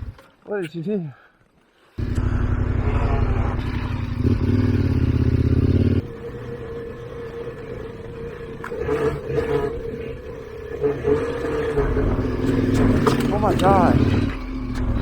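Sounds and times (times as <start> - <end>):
motorcycle engine revving: 2.0 - 15.0.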